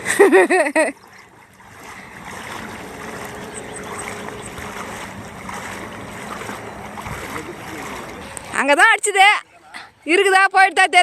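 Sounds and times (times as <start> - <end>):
lake water washing: 0.0 - 11.0.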